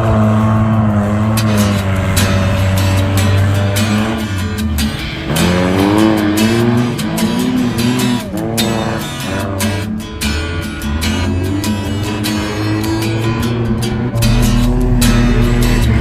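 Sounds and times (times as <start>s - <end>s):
music with guitar and beat: 0.0s - 16.0s
race engines revving: 0.0s - 16.0s.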